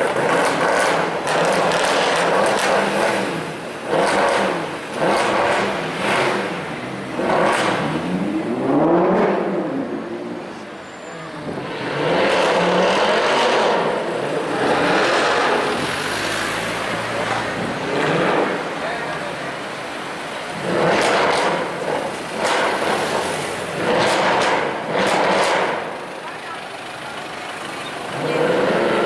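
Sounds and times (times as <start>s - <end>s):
car engine revving: 0.0s - 26.2s, 28.0s - 29.0s.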